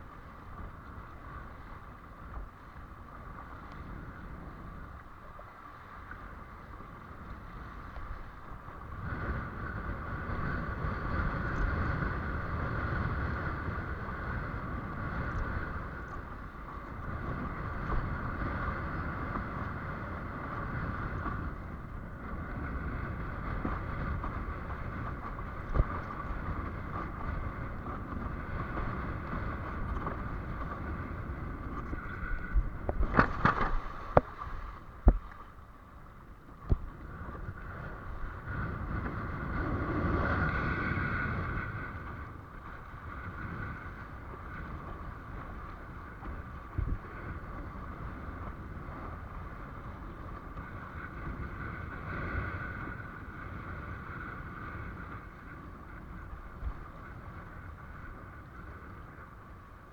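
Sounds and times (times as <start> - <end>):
steady motor hum: 0.0 - 59.9
wind on microphone: 0.0 - 59.9.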